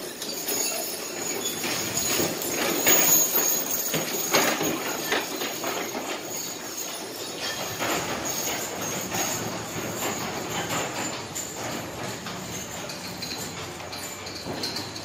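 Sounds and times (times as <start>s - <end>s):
harness jingling: 0.0s - 15.0s
wagon wheels rumbling: 0.0s - 15.0s.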